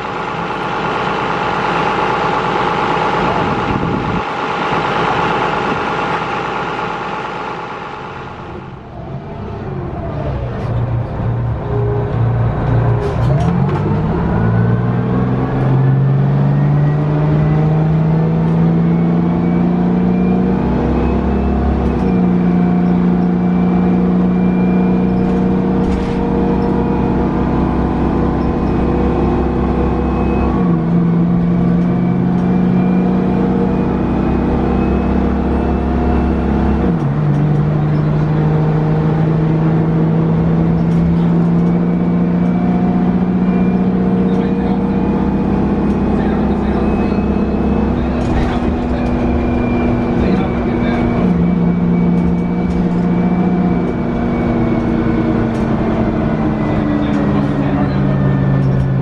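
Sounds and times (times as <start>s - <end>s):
bus engine pulling under load: 0.0s - 59.0s
high transmission whine: 0.0s - 59.0s.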